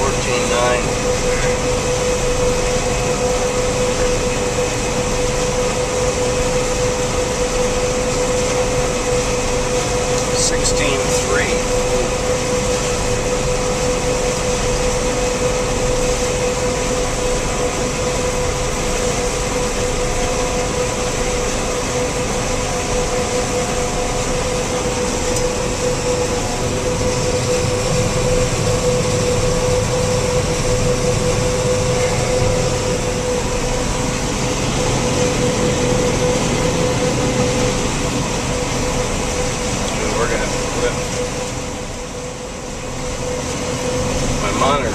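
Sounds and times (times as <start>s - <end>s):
combine harvester drone: 0.0s - 44.9s
constant machine whine: 0.0s - 44.9s.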